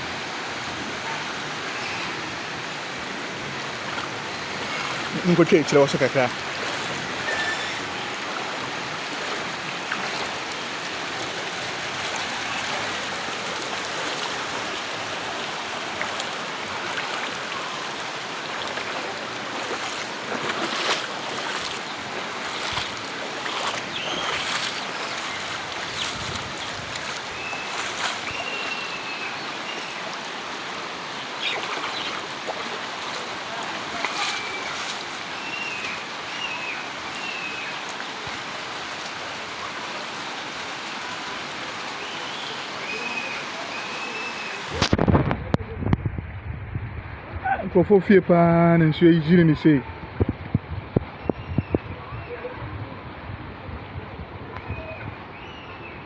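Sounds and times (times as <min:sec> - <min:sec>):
floodwater rushing: 0:00.0 - 0:45.4.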